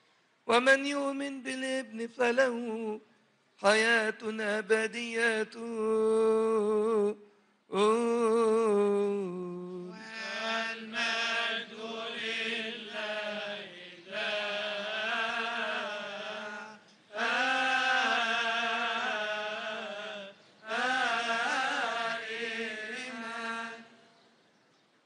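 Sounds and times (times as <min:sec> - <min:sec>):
liturgical chant: 0:00.5 - 0:03.0, 0:03.6 - 0:24.2.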